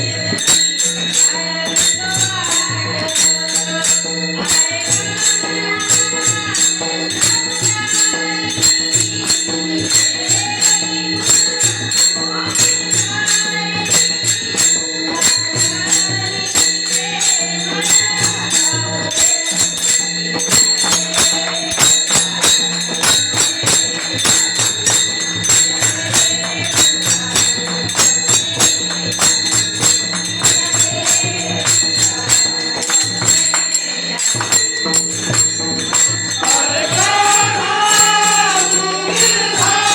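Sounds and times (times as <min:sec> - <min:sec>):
held accompanying tones: 0:00.0 - 0:39.9
percussion beat: 0:00.0 - 0:39.9
woman singing devotional song: 0:00.0 - 0:39.9.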